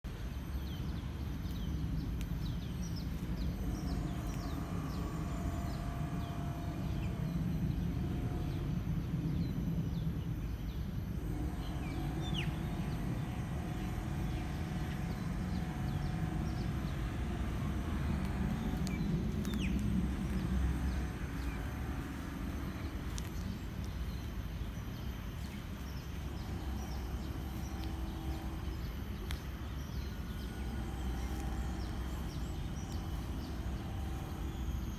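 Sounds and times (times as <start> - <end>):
steady low rumble: 0.0 - 34.9
small birds chirping: 0.1 - 34.9.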